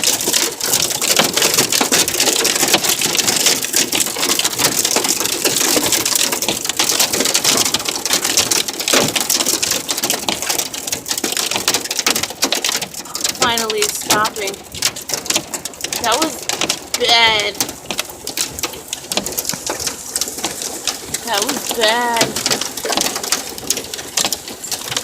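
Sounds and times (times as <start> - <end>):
hail and rain on car roof: 0.0 - 25.0.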